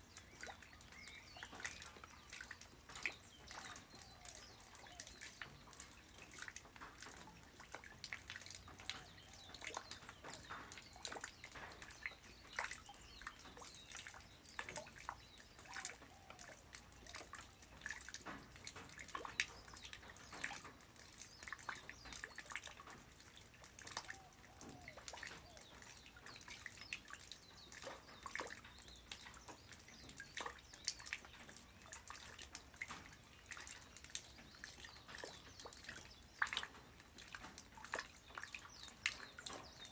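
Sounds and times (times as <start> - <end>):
light rain pattering on ground: 0.0 - 39.9.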